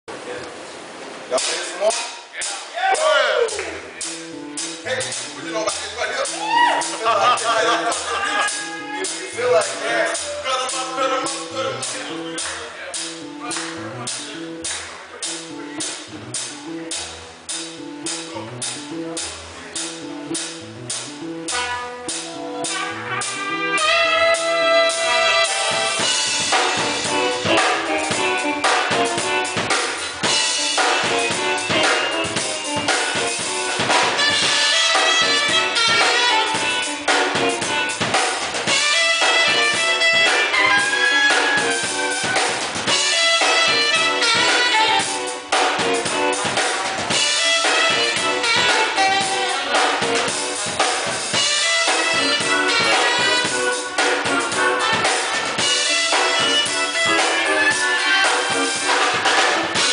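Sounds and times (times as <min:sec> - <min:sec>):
fast snare and bass drum: 0:01.3 - 0:59.9
live band playing: 0:01.3 - 0:59.9
saxophone and horn lines: 0:02.9 - 0:59.9.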